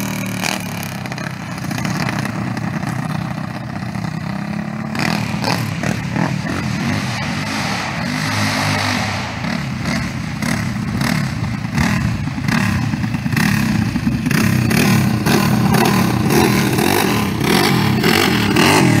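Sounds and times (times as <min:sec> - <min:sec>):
go-kart engines under throttle: 0:00.0 - 0:19.0.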